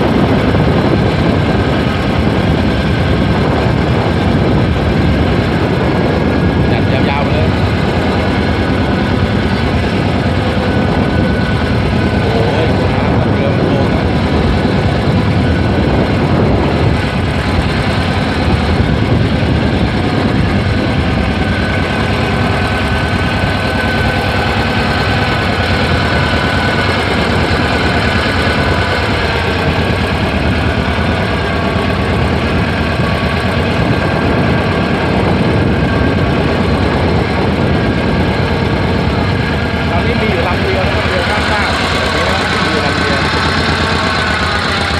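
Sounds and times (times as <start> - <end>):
boat engine running: 0.0 - 44.9
rush of water: 0.0 - 44.9.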